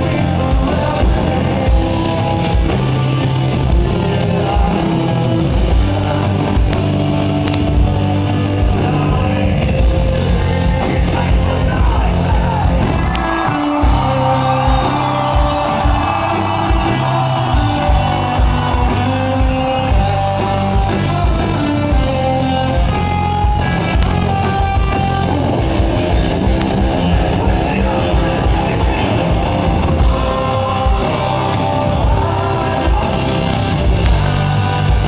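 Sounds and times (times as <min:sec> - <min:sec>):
person singing: 0:00.0 - 0:26.1, 0:26.8 - 0:35.0
bass guitar: 0:00.0 - 0:35.0
electric guitar: 0:00.0 - 0:35.0.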